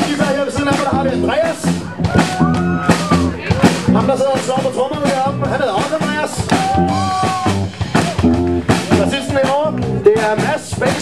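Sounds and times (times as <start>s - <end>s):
live blues band playing: 0.0s - 11.0s.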